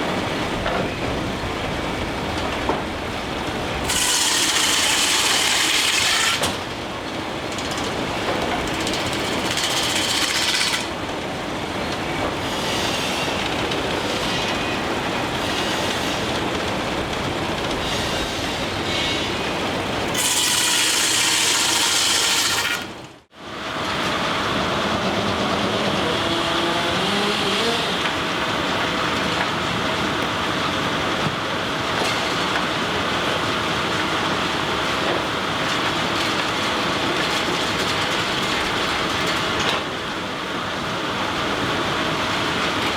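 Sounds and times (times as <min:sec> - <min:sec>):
sawmill machinery clattering: 0:00.0 - 0:42.9.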